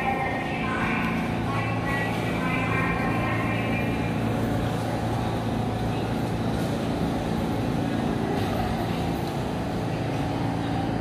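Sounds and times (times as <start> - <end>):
subway train slowing to a stop: 0.0 - 11.0.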